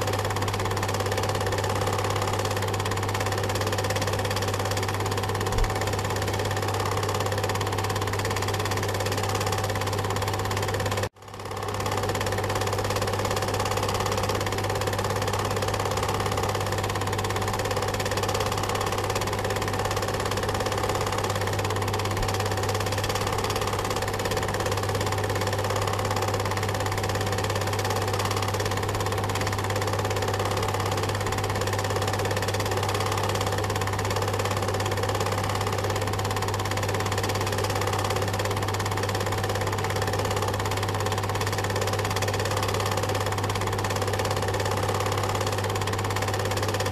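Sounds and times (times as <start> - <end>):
film projector whirring: 0.0 - 46.9.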